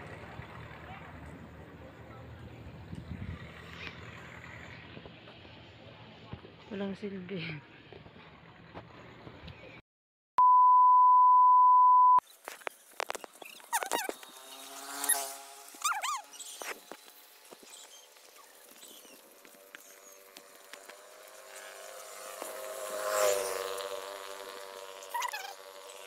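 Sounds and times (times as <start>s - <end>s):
motorcycles passing: 0.0s - 9.6s, 13.2s - 26.0s.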